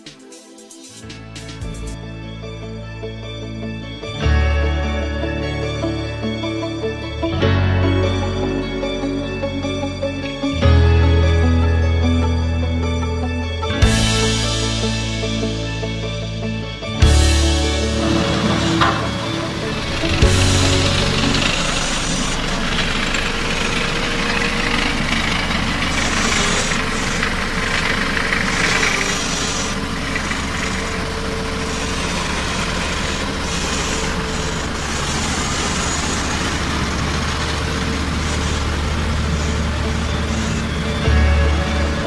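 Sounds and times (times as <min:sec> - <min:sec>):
road roller diesel engine: 0:01.0 - 0:42.0.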